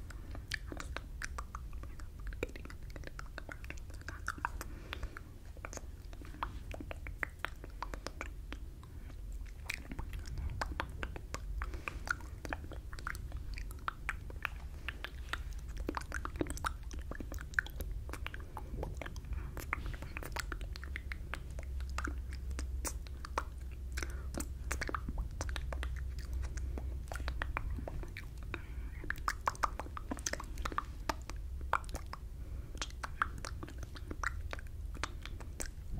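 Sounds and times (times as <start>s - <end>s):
wet mouth clicks and lip smacks: 0.0s - 35.9s.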